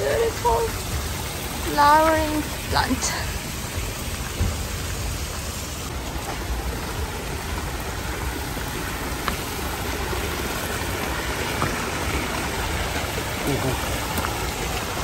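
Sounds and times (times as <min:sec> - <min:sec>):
creek water cascading over rocks: 0:00.0 - 0:15.0.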